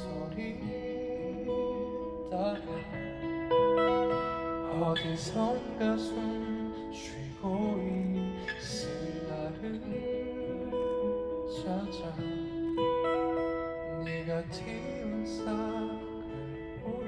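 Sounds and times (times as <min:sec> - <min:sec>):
acoustic guitar playing: 0:00.0 - 0:17.0
long held melodic notes: 0:00.0 - 0:17.0.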